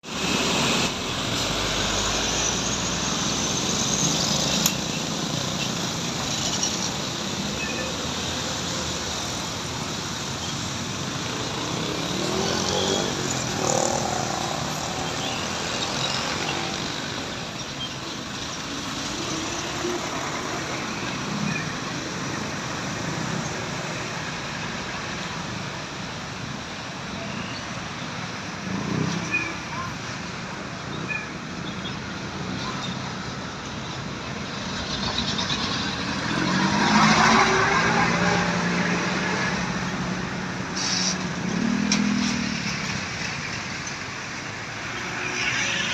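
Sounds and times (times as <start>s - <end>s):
road traffic passing: 0.0s - 45.9s.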